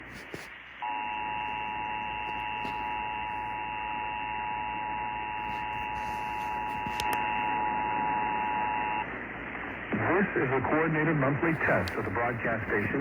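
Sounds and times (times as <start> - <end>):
radio hiss: 0.0 - 3.9, 5.2 - 13.0.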